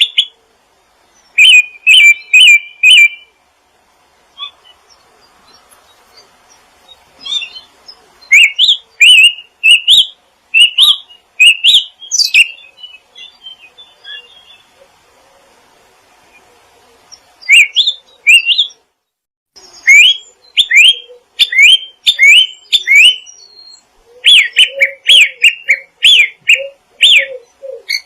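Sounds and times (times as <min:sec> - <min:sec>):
faint bird twittering: 0:00.0 - 0:03.4, 0:04.3 - 0:19.0, 0:19.6 - 0:28.0
songbird chirping: 0:00.0 - 0:28.0.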